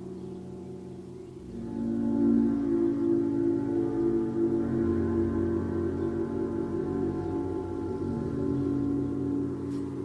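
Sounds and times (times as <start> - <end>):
gong ringing: 0.0 - 10.0.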